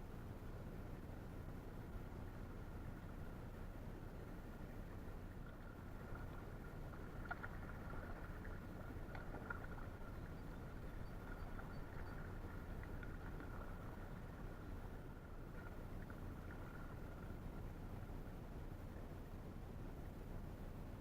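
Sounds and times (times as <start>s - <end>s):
low steady rumble: 0.0s - 21.0s
soft water sounds: 0.0s - 21.0s.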